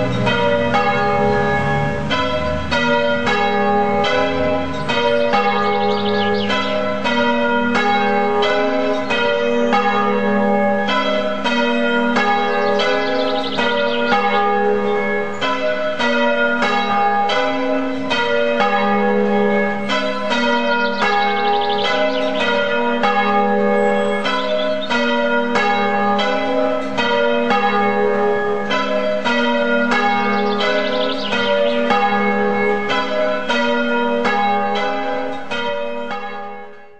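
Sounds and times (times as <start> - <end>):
church bells pealing: 0.0 - 36.9.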